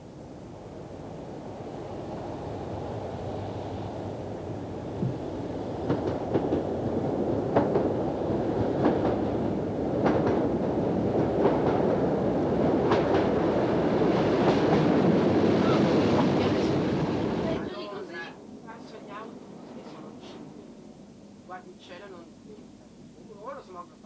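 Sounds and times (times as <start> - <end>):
train engine and wheel rumble: 0.0 - 24.0.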